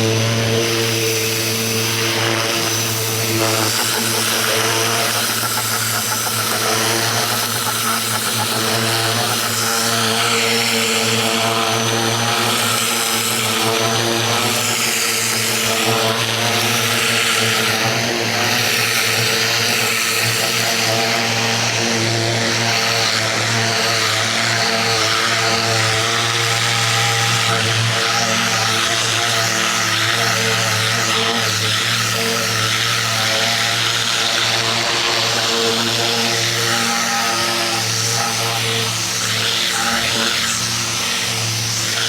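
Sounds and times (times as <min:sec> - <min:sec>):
pressure washer motor humming: 0:00.0 - 0:42.0.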